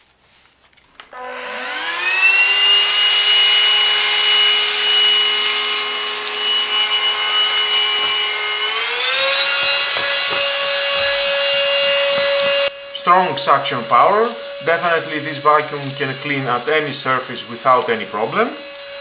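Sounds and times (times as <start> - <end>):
vacuum cleaner motor whine: 1.0 - 19.0
vacuum suction hiss: 1.2 - 19.0.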